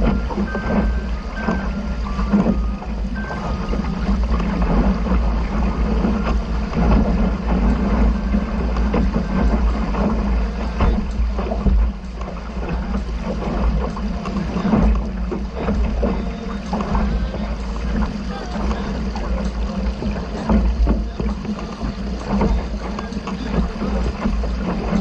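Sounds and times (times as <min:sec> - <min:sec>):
water noise: 0:00.0 - 0:25.0
wind rumbling on microphone: 0:00.0 - 0:25.0.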